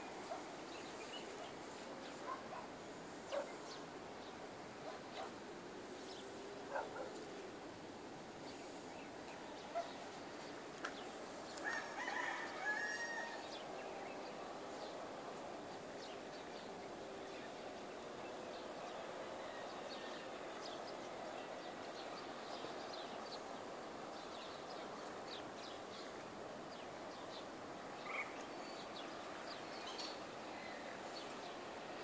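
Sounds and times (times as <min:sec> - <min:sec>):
small birds chirping: 0:00.0 - 0:07.2, 0:08.4 - 0:32.0
rural outdoor noise: 0:00.0 - 0:32.0.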